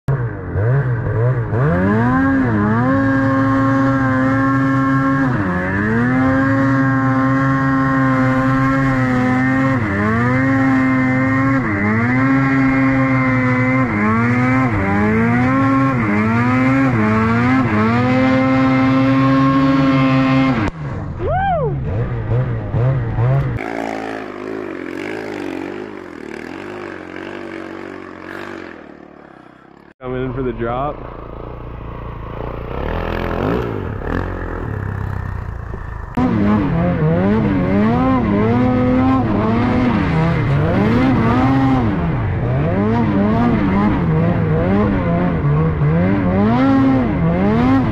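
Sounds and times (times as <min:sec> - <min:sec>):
snowmobile engine revving: 0:00.1 - 0:47.9.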